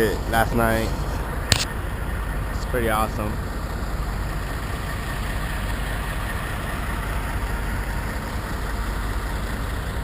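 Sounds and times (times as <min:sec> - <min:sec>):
diesel truck engines idling: 0:00.0 - 0:10.0.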